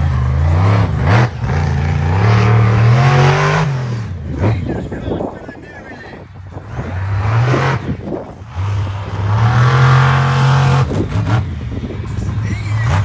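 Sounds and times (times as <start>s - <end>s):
monster truck engine revving: 0.0s - 5.2s, 6.5s - 13.0s.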